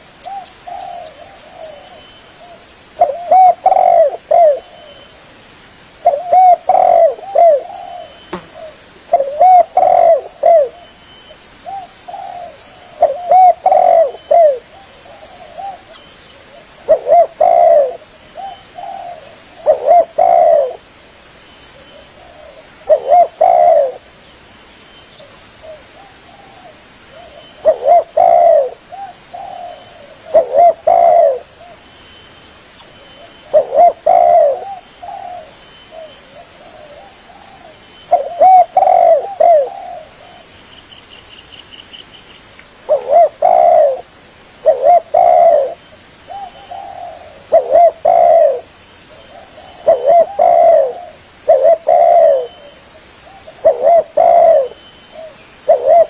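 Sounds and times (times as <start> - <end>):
dove cooing: 0.0 - 5.1, 6.0 - 10.9, 11.6 - 20.9, 21.8 - 24.2, 25.2 - 31.8, 33.2 - 40.5, 42.9 - 56.0.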